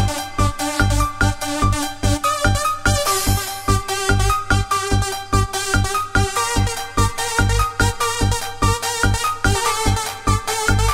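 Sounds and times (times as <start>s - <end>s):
electronic dance music: 0.0s - 10.9s
kick drum: 0.0s - 10.9s
sustained synth notes: 0.0s - 10.9s.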